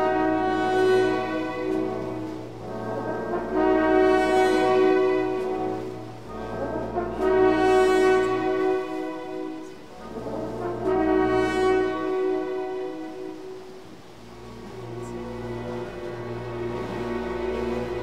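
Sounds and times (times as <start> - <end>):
slow sustained music chords: 0.0 - 18.0.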